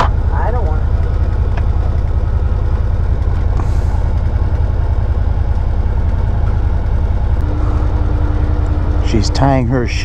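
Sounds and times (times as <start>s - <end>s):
engine idling deep rumble: 0.0s - 10.0s.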